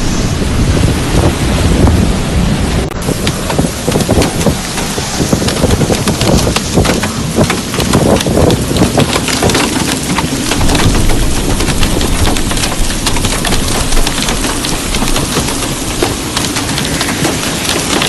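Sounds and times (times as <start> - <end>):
heavy rain clattering: 0.0 - 18.0
wind buffeting microphone: 0.0 - 18.0.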